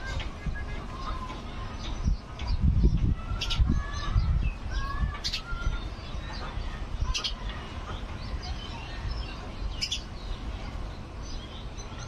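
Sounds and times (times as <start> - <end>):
birds calling: 0.0 - 12.0
low rumbling noise: 0.0 - 12.0.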